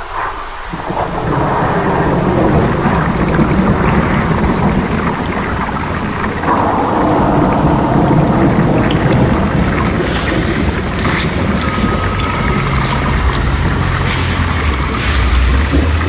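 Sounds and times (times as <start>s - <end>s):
heavy rain: 0.0s - 16.0s
deep rumble: 1.1s - 16.0s.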